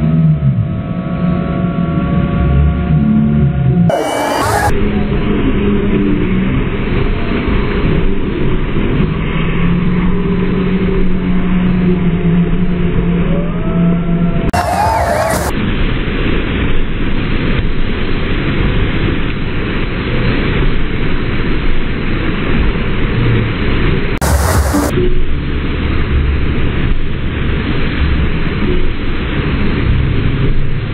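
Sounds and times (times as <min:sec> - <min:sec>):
low steady hum: 0:00.0 - 0:30.9
roar of rushing water: 0:00.0 - 0:30.9.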